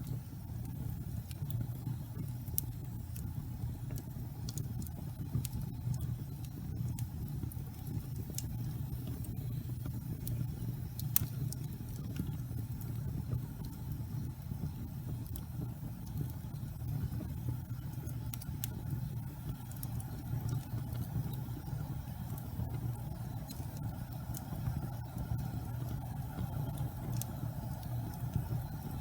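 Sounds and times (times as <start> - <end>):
low rumble of flames: 0.0 - 29.0
wood fire crackling and popping: 0.0 - 29.0.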